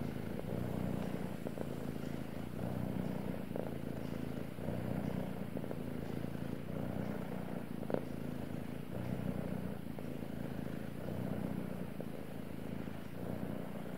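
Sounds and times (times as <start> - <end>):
cat purring: 0.0 - 13.9.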